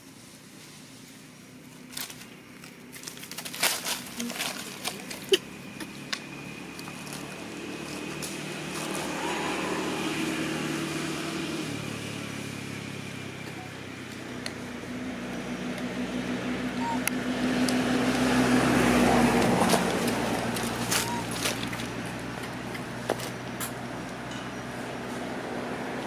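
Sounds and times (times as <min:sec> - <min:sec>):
vehicle engine running: 0:00.2 - 0:26.0.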